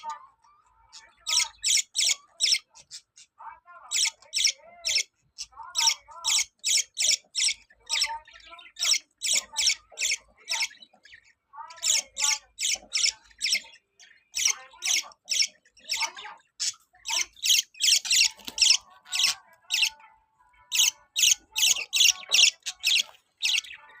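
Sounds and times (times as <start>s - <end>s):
soft low bird chatter: 0.0s - 24.0s
budgerigars squawking: 1.2s - 20.0s, 20.7s - 24.0s.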